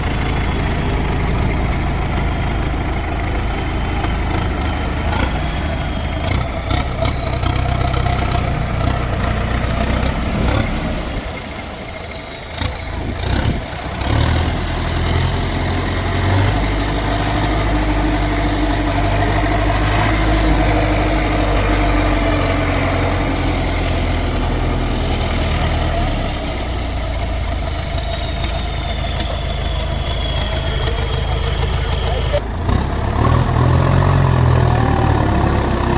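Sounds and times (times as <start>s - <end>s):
heavy diesel engines running: 0.0s - 35.9s.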